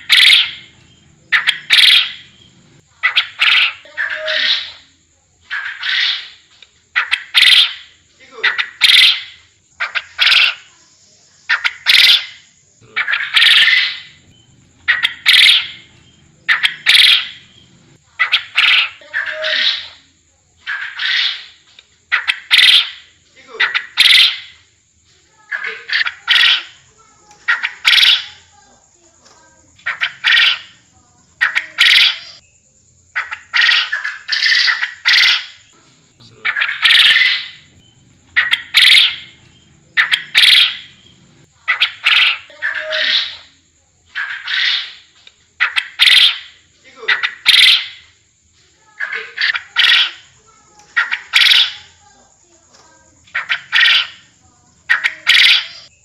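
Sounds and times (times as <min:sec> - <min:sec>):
quail calls: 0:00.0 - 0:10.7, 0:11.5 - 0:24.6, 0:25.4 - 0:28.6, 0:29.7 - 0:32.4, 0:33.2 - 0:48.2, 0:48.9 - 0:52.0, 0:53.2 - 0:56.0.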